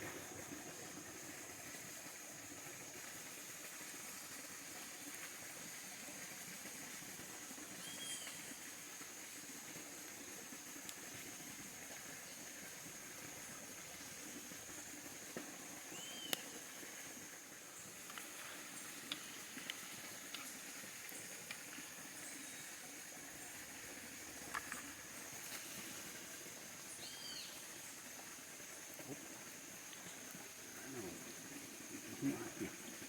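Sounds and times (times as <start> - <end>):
high insect drone: 0.0 - 33.0
pot of rice simmering: 0.0 - 33.0.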